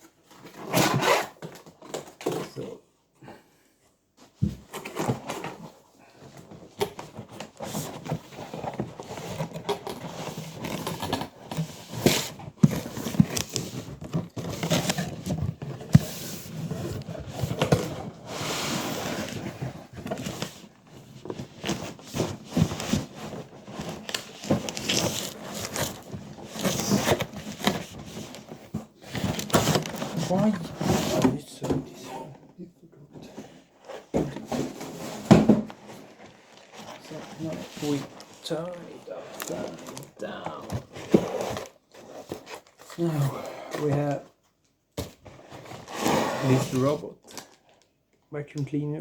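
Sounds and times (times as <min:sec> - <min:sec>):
cardboard and plastic packaging handled: 0:00.0 - 0:02.8, 0:04.2 - 0:48.2.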